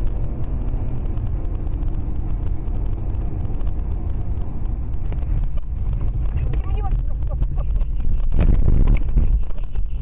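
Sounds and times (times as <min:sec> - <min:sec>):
car engine rumble: 0:00.0 - 0:10.0
tyres on snowy road: 0:00.0 - 0:10.0.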